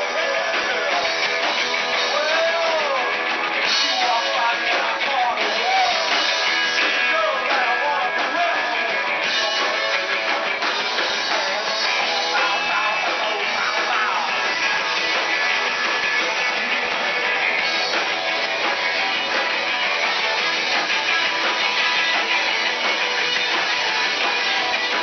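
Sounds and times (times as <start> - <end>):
drum kit: 0.0 - 25.0
electric guitars: 0.0 - 25.0.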